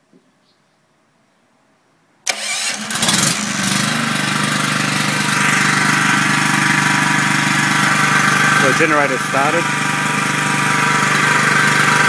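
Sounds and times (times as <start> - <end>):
generator engine running: 2.3 - 12.0
generator starter cranking: 2.3 - 12.0.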